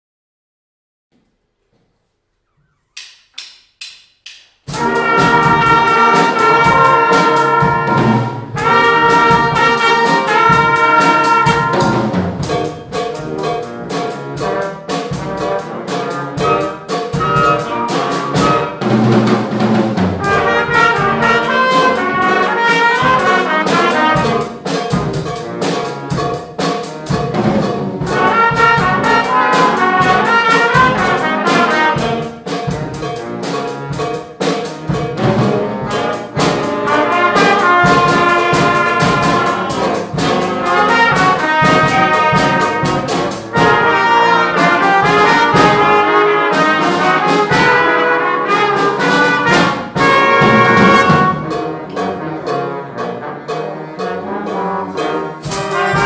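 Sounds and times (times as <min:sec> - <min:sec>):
trumpets: 0:04.7 - 0:19.3, 0:20.0 - 0:26.4, 0:27.2 - 0:34.2, 0:34.9 - 0:56.0
school band playing brass piece: 0:04.7 - 0:56.0.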